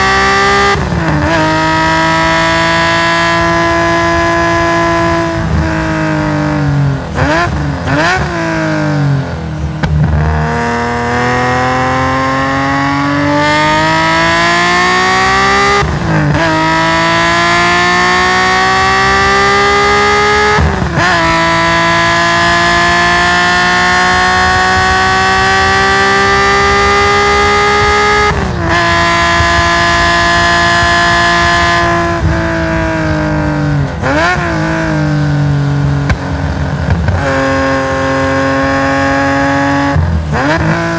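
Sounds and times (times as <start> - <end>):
race car engine revving: 0.0 - 40.9
throttle blips on downshifts: 0.0 - 40.9.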